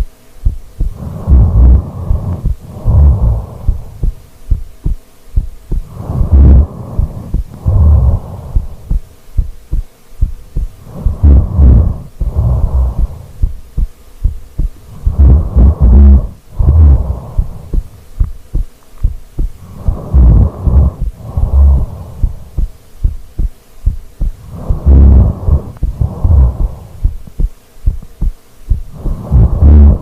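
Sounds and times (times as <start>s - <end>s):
deep breaths: 0.0s - 30.0s
heartbeat thumps: 0.0s - 30.0s.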